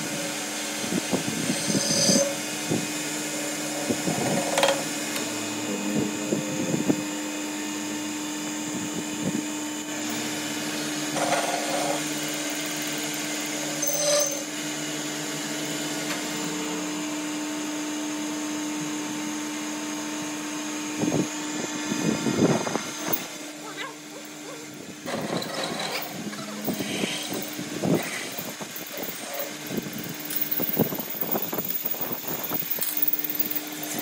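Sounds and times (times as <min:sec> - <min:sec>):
metal lathe humming: 0:00.0 - 0:20.0, 0:20.6 - 0:34.0.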